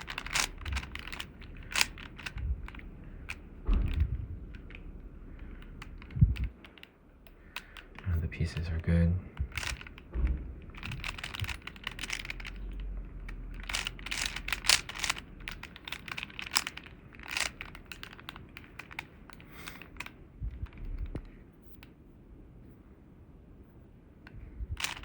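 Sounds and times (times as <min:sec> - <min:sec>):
puzzle cube clicking and rattling: 0:00.0 - 0:08.6, 0:09.4 - 0:21.3, 0:24.8 - 0:25.0.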